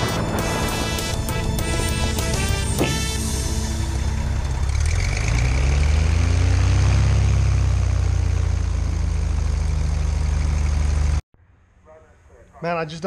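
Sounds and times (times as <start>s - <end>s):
propeller plane engine: 0.0s - 11.2s.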